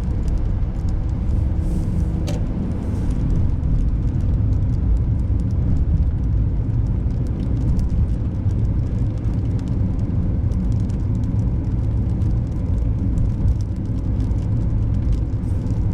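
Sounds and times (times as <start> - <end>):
tyres and engine rumbling: 0.0 - 15.9.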